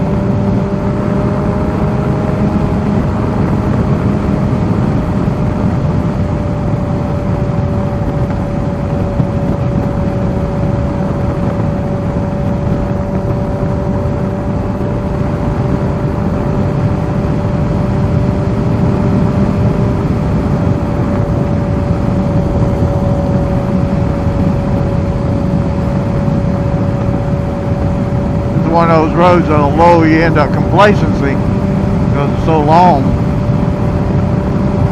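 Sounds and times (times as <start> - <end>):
motorcycle engine cruising: 0.0 - 34.9
wind rush on microphone: 0.0 - 34.9.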